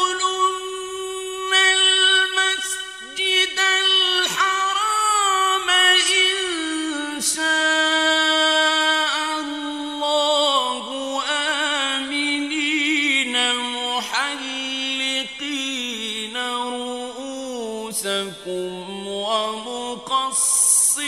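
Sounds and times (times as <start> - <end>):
man chanting melodic recitation: 0.0 - 21.0.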